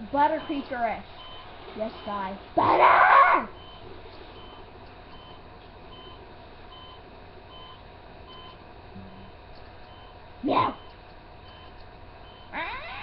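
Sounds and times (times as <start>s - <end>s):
low steady background noise: 0.0s - 13.0s
vehicle reversing alarm beeping: 0.2s - 2.4s, 3.5s - 13.0s.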